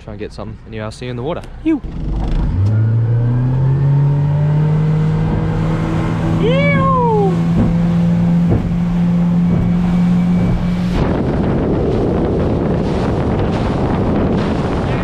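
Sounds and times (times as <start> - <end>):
rushing water: 0.8 - 15.0
outboard motor humming: 1.4 - 15.0
wind on microphone: 1.8 - 15.0.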